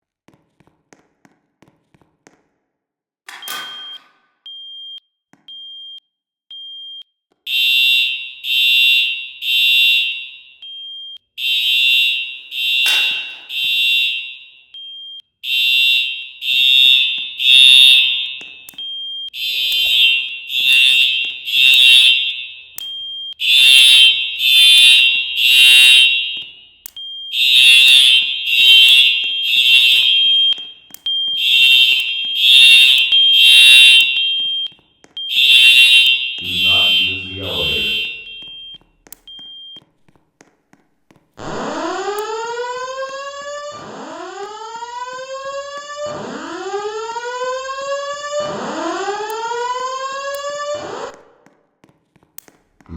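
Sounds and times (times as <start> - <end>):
fire alarm blasts: 3.3 - 39.8, 41.4 - 51.4.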